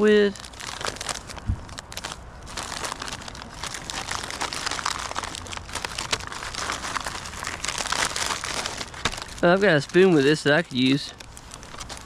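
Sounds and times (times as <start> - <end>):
plastic pouches crinkling: 0.0 - 12.0.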